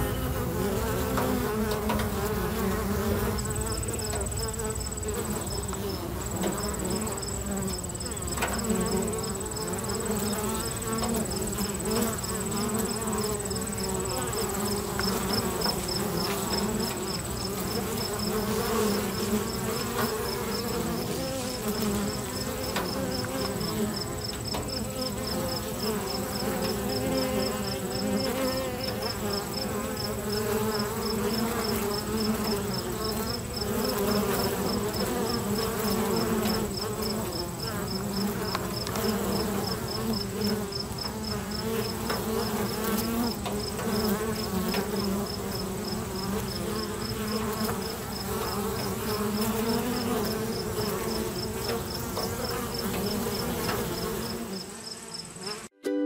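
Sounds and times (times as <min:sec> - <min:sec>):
honey bees buzzing: 0:00.0 - 0:56.0.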